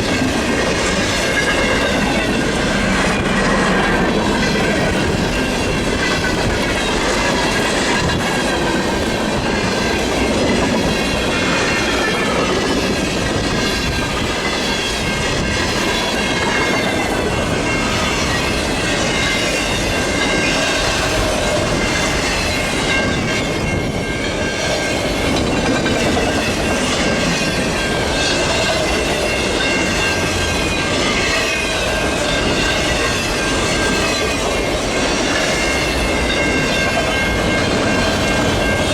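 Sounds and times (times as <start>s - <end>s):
clickety-clack of rails: 0.0s - 38.9s
train wheels rumbling on rails: 0.0s - 38.9s.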